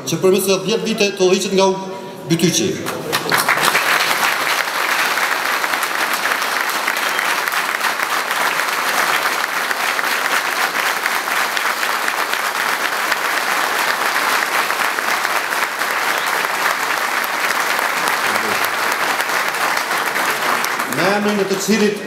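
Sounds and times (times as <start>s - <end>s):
crowd applauding: 2.8s - 22.0s.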